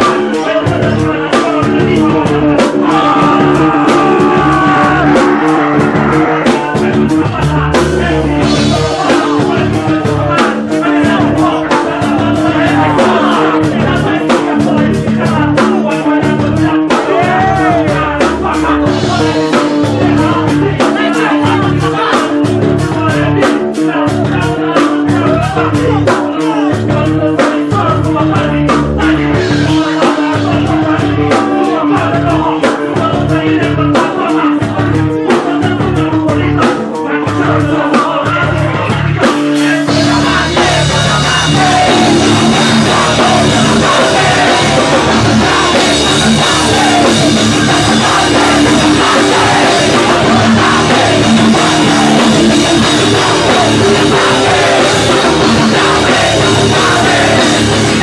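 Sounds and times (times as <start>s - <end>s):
hardcore band playing loud: 0.0s - 58.0s.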